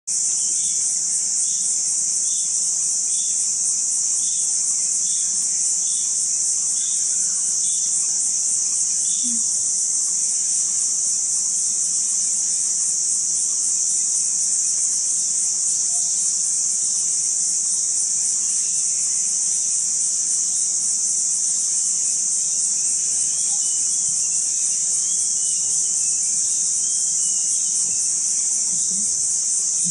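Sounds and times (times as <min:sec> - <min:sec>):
forest insects shrilling: 0:00.1 - 0:29.9.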